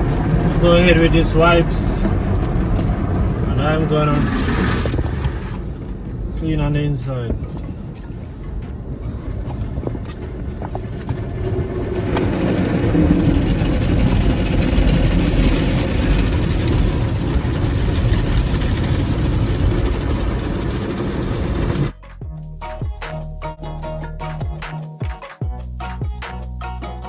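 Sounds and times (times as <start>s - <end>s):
car wash spray and machinery: 0.0s - 21.9s.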